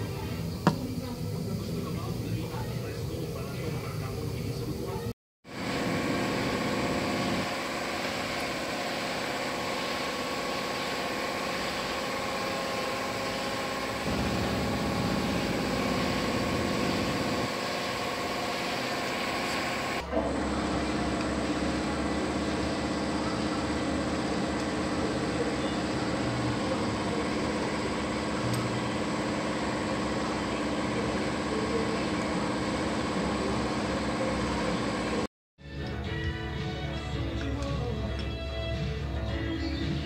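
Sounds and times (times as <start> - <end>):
steady mechanical hum: 0.0 - 35.3.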